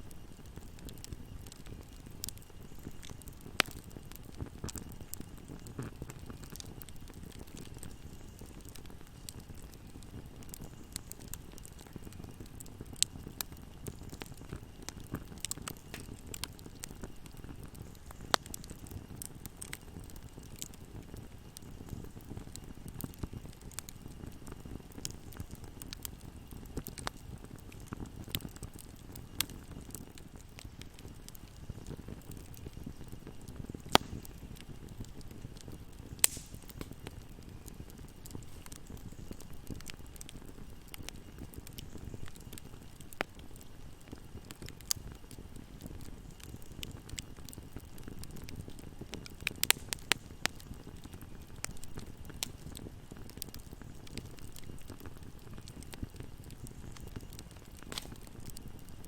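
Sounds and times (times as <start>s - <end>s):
wood fire crackling: 0.0s - 59.0s
sharp pops of burning wood: 0.2s - 59.0s.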